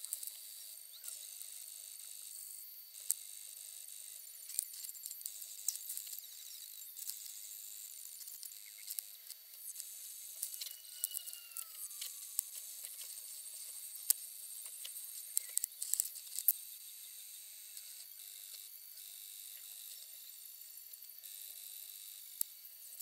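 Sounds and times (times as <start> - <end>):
small clicks and ticks: 0.0 - 23.0.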